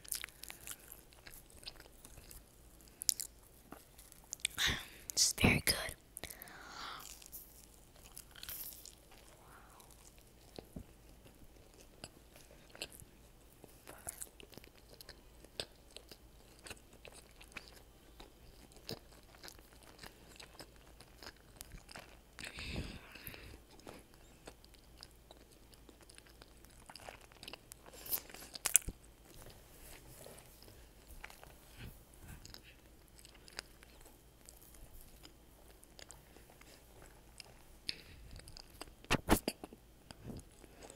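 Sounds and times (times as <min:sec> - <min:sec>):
crunching of crisp breading: 0:00.0 - 0:04.6, 0:06.2 - 0:40.9
mouth chewing sounds: 0:00.0 - 0:05.2, 0:06.2 - 0:29.6, 0:30.2 - 0:40.9.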